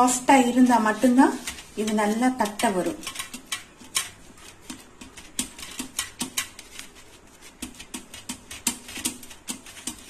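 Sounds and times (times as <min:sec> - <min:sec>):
sticky pats of dough: 0:00.3 - 0:10.0.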